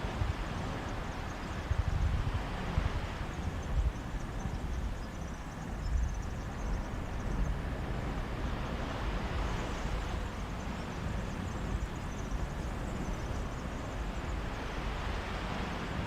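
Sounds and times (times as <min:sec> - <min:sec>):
sea waves washing onto beach: 0:00.0 - 0:04.2, 0:07.0 - 0:16.0.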